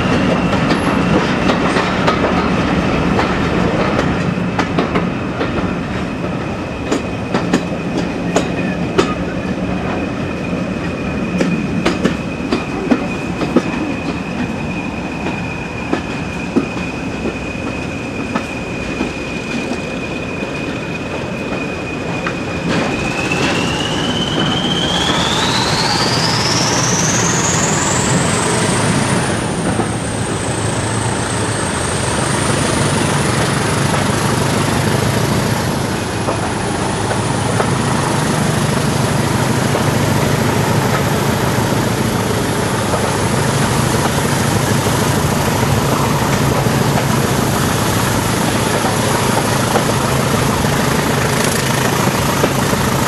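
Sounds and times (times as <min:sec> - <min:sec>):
diesel locomotive engine working hard: 0:00.0 - 0:53.0
wheel and rail noise: 0:00.0 - 0:53.0.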